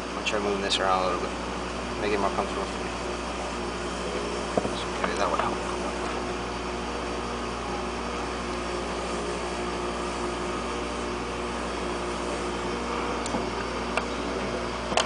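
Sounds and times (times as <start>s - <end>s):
equipment hum and hiss: 0.0s - 15.0s.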